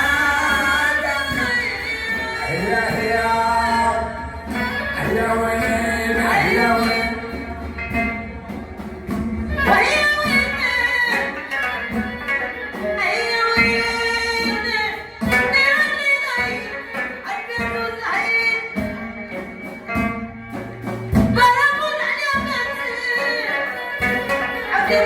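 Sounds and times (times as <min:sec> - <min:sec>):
hand-drum beats: 0:00.0 - 0:25.0
violin: 0:00.0 - 0:25.0.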